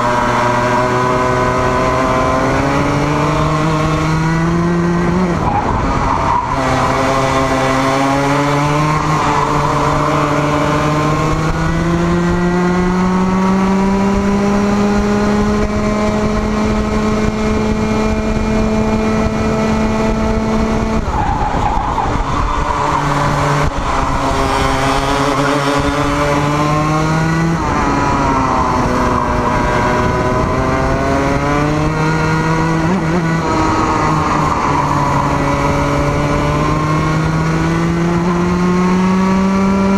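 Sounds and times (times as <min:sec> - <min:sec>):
kart engine at full speed: 0:00.0 - 0:39.9.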